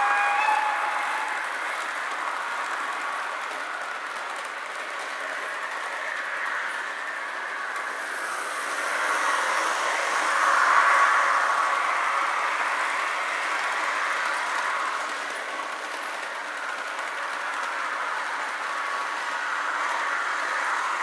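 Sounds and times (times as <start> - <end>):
model trains rattling on metal track: 0.0 - 21.0.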